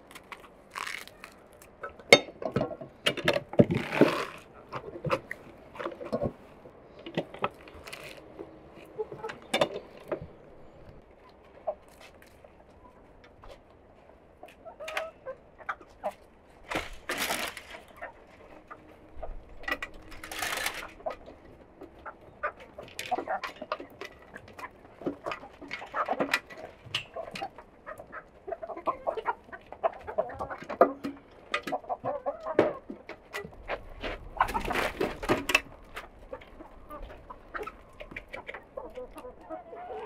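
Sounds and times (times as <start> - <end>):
chickens clucking: 0.1 - 40.0.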